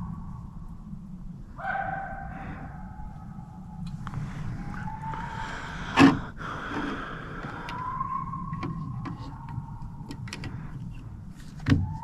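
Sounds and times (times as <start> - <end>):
distant hounds howling: 0.0 - 12.0.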